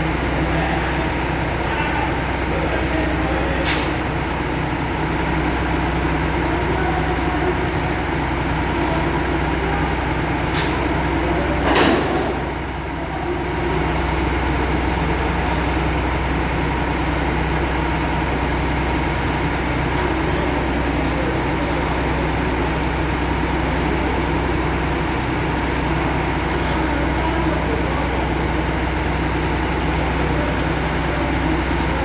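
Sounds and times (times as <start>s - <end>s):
heavy crane engine running: 0.0s - 32.0s.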